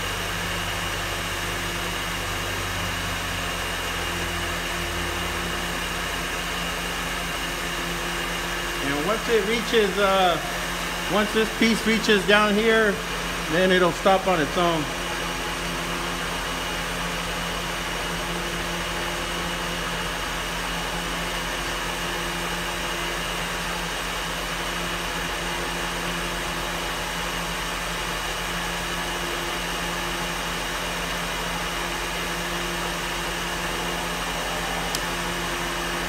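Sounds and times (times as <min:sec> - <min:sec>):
milling machine humming: 0:00.0 - 0:36.0.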